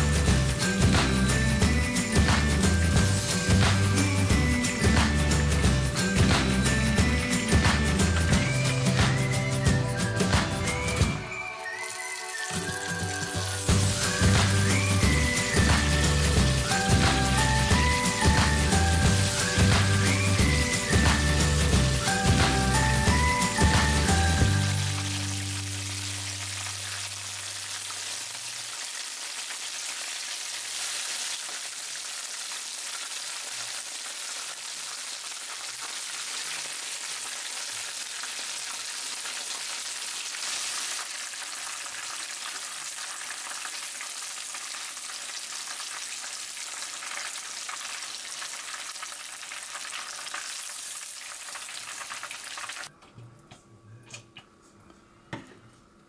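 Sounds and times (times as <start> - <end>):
oil sizzling in frying pan: 0.0 - 52.9.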